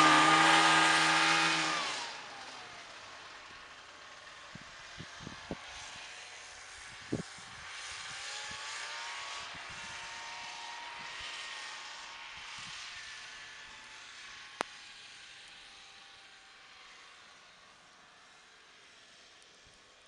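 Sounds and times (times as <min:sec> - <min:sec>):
distant snowmobile engine accelerating: 0:00.0 - 0:20.0.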